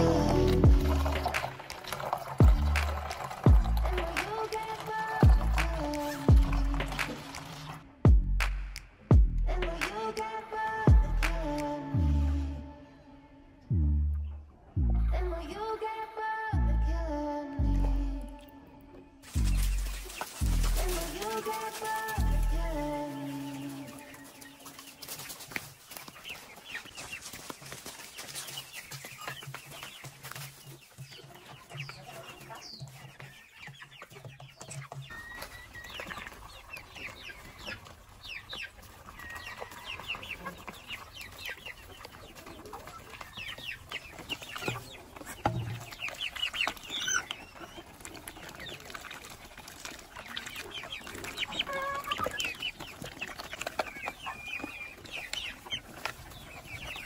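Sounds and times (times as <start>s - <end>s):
hens clucking: 0.0s - 7.9s, 18.9s - 57.0s.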